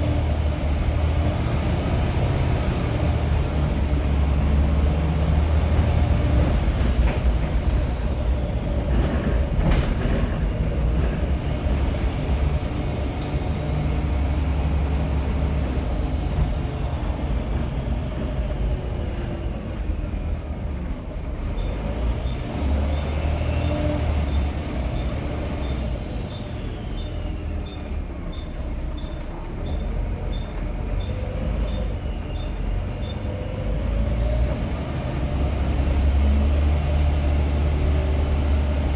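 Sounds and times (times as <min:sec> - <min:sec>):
diesel bus engine pulling hard: 0:00.0 - 0:38.9.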